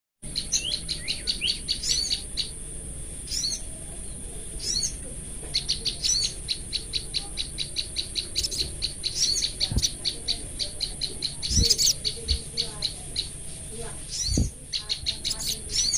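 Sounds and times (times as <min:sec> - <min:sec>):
bird warbled phrases: 0:00.3 - 0:02.6, 0:03.2 - 0:15.9.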